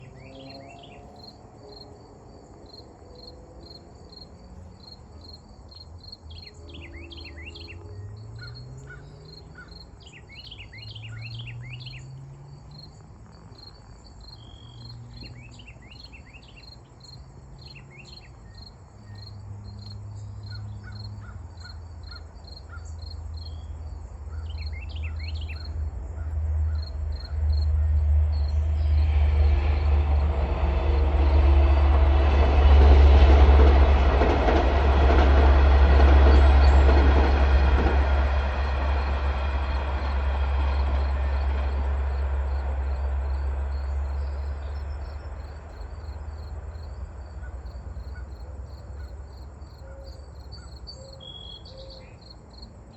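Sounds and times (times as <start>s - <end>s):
insects trilling: 0.0s - 30.3s, 38.6s - 52.7s
approaching train rumble: 0.0s - 52.9s.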